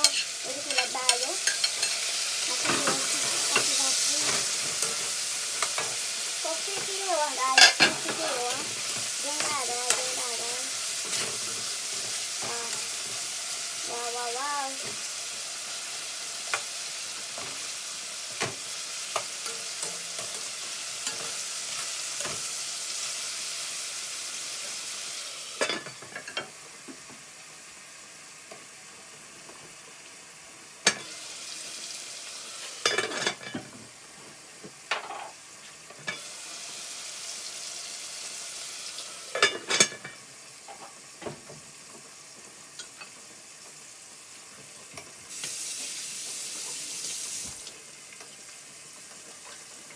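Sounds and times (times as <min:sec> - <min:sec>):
vegetables sizzling in a pot: 0:00.0 - 0:49.9.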